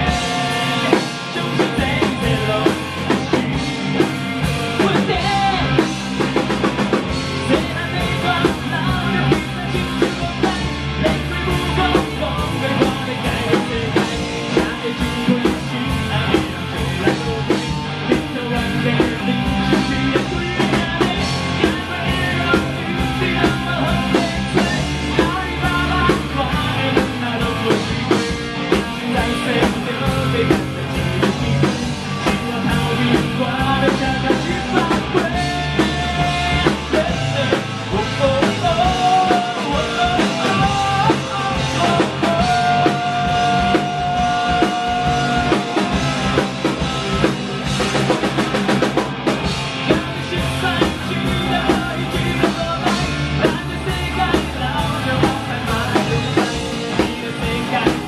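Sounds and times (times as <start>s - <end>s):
drum kit beat: 0.0s - 58.0s
electric and bass guitar: 0.0s - 58.0s
man singing: 0.0s - 58.0s.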